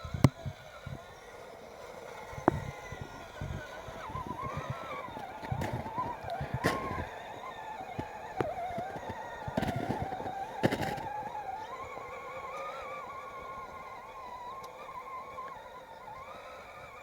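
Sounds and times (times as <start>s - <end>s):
electric motor and gearbox whining: 0.0s - 17.0s
wheels and chassis knocking ground: 0.0s - 17.0s.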